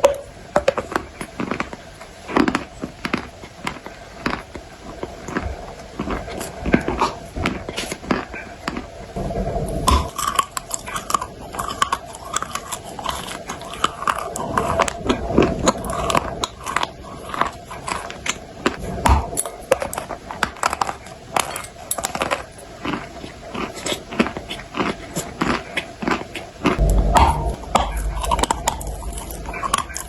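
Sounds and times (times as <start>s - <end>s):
crunching and chewing clay: 0.1s - 9.1s, 9.7s - 26.8s.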